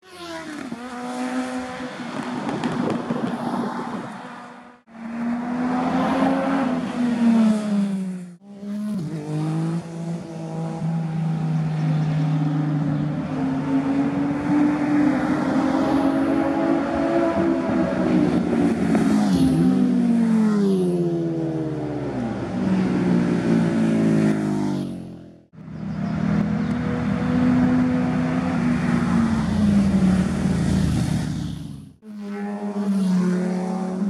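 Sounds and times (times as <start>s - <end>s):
motorcycle engines revving past: 0.0s - 34.0s.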